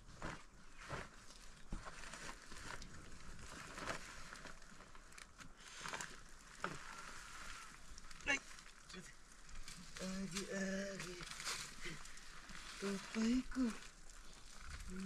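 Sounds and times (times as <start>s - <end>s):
dry leaves rustling and crunching: 0.2s - 15.0s.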